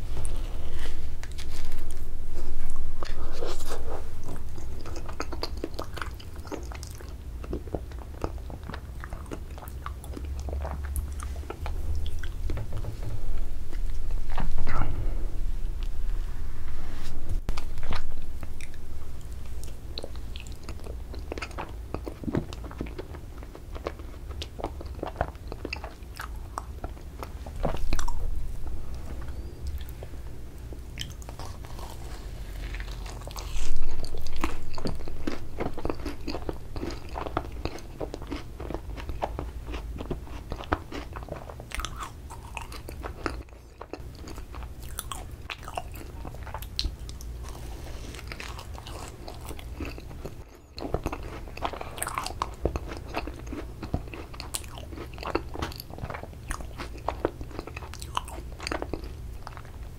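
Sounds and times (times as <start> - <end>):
close-miked eating and crunching: 0.0 - 16.2, 17.0 - 59.9.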